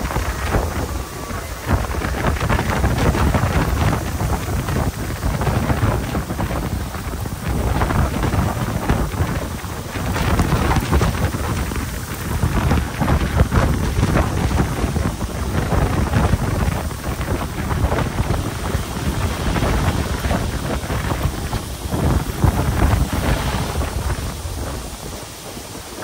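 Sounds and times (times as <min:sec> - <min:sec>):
gravel pouring from truck: 0:00.0 - 0:26.0.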